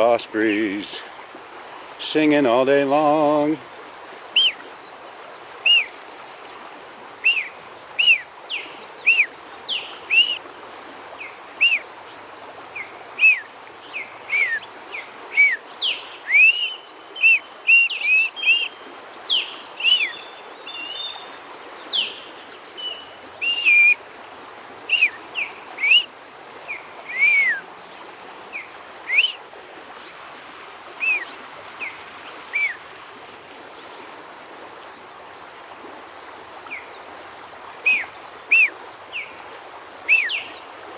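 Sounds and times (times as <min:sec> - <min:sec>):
ospreys calling: 0:00.0 - 0:40.9
river running: 0:00.0 - 0:40.9.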